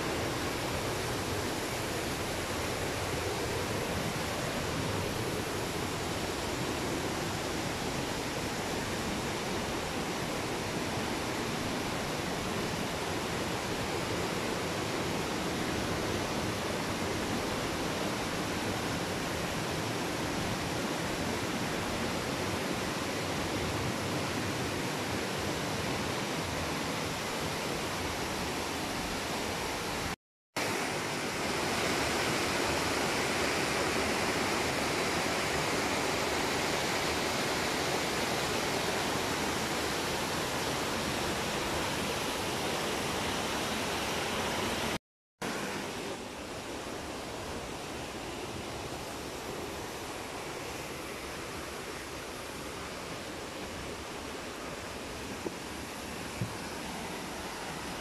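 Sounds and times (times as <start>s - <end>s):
stream cascading over rocks: 0.0s - 58.0s.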